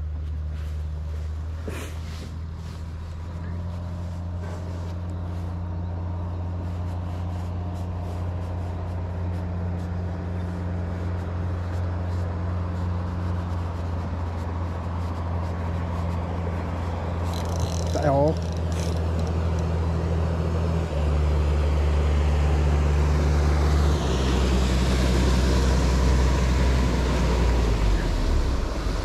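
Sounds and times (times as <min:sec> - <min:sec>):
engine humming: 0:00.0 - 0:29.0.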